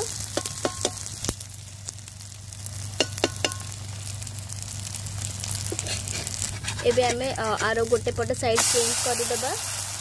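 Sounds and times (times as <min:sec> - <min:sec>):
bread sizzling in oil: 0:00.0 - 0:10.0.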